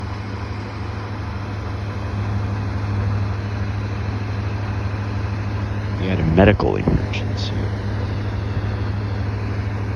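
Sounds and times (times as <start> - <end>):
road noise: 0.0 - 9.9
vehicle engine drone: 0.0 - 9.9.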